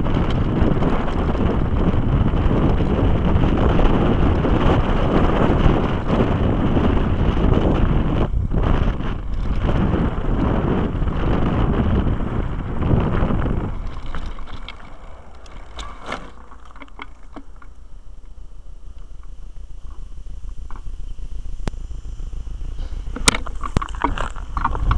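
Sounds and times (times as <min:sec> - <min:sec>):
tyres rolling over gravel: 0:00.0 - 0:18.3, 0:22.8 - 0:24.9
bike rattling on dirt track: 0:00.0 - 0:21.1, 0:22.3 - 0:24.9
wind buffeting microphone: 0:00.0 - 0:24.9.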